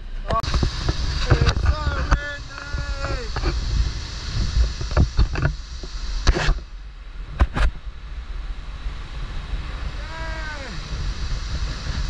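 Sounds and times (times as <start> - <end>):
wind buffeting microphone: 0.0 - 12.0
waterfall rushing: 0.3 - 12.0.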